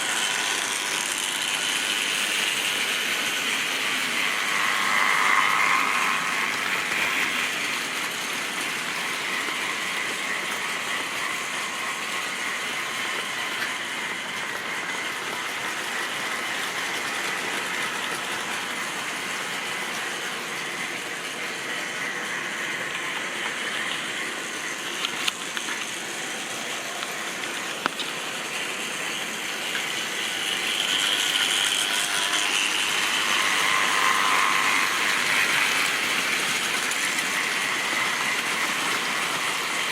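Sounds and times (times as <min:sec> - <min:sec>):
model train whirring and rattling: 0:00.0 - 0:39.9.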